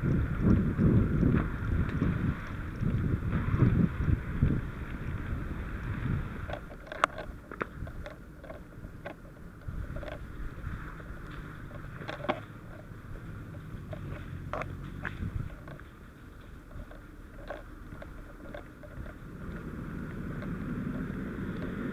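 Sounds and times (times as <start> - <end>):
rustling on microphone: 0.0 - 21.9.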